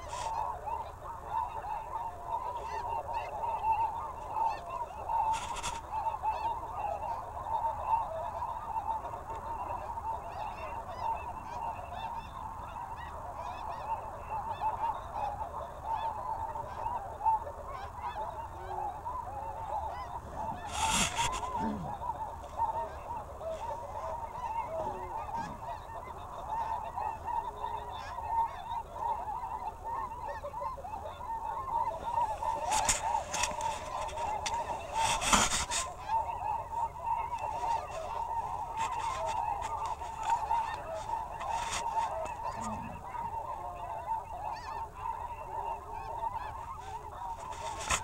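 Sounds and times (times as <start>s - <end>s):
geese honking: 0.0s - 48.0s.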